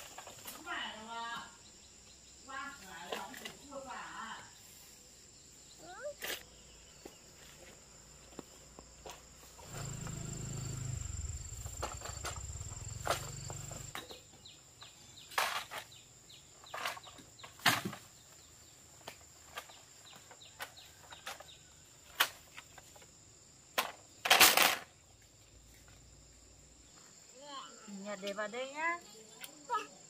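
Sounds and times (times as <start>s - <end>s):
insect trill: 0.0s - 30.0s.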